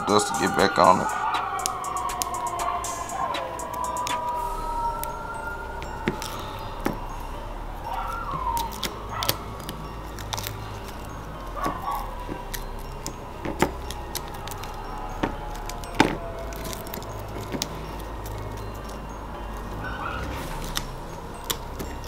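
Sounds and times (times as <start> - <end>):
music with deep bass: 0.0 - 22.0.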